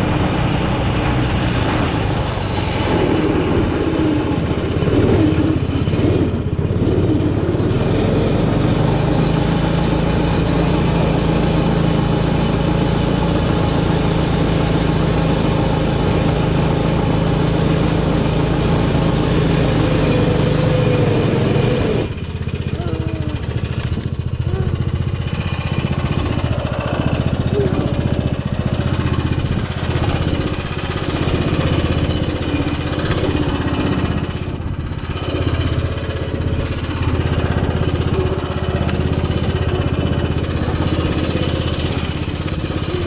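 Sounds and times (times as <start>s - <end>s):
snowmobile engine running: 0.0s - 43.0s.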